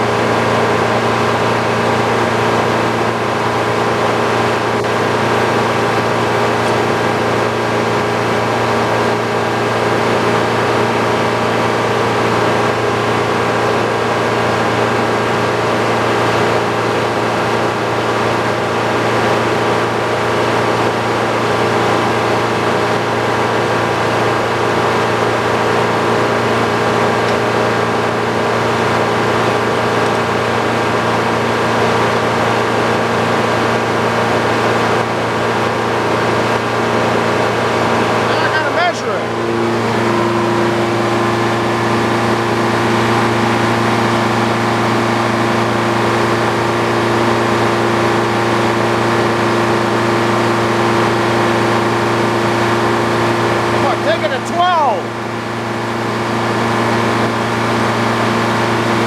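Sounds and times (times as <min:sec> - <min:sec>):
sawmill machine hum: 0:00.0 - 0:59.0.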